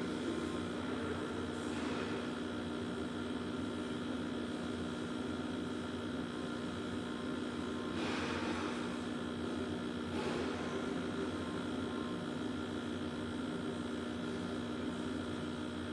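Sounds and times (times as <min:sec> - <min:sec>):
electrical mains hum: 0:00.0 - 0:15.9.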